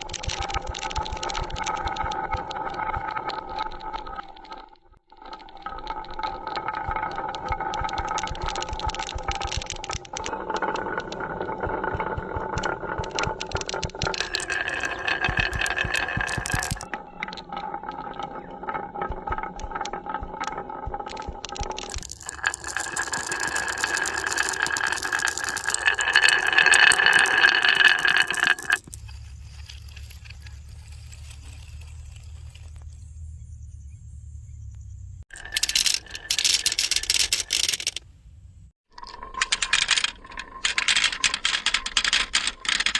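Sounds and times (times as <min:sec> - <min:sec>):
marbles rattling down wooden tracks: 0:00.0 - 0:32.8, 0:35.3 - 0:38.0, 0:38.9 - 0:42.9.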